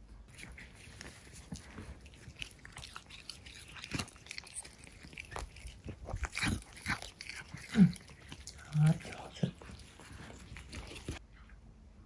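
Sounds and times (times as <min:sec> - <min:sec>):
cats chewing grass: 0:00.3 - 0:11.2.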